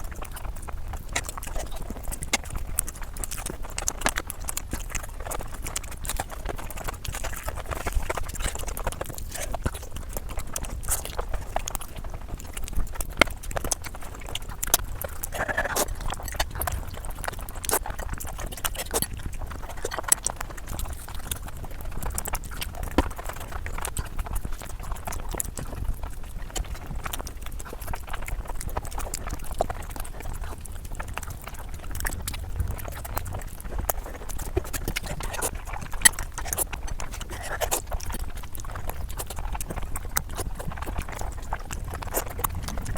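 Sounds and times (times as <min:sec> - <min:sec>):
chewing with clicks and smacks: 0:00.0 - 0:42.9.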